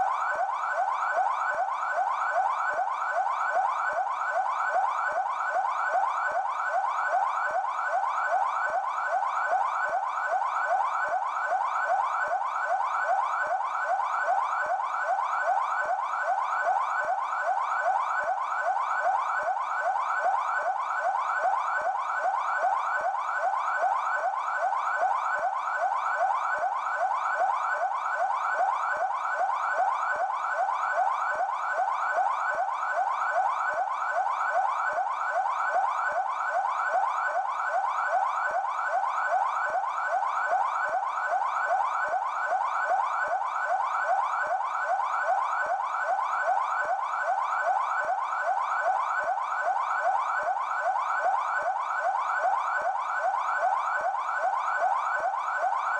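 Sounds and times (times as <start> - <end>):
police siren yelp: 0.0 - 55.9.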